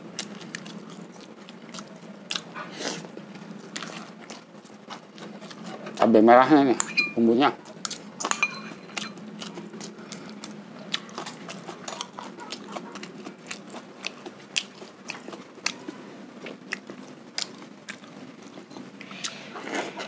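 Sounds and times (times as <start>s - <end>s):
wet chewing and mouth smacks: 0.2s - 6.0s, 7.8s - 20.0s.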